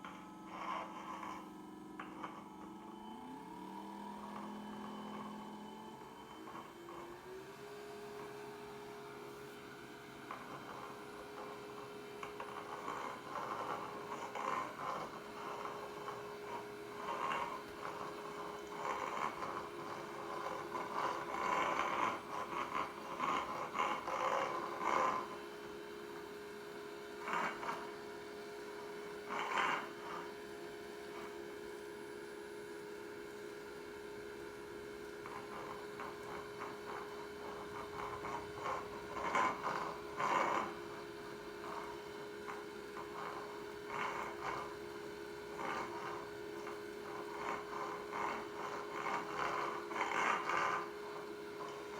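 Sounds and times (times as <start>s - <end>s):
vacuum cleaner motor humming: 0.0s - 51.9s.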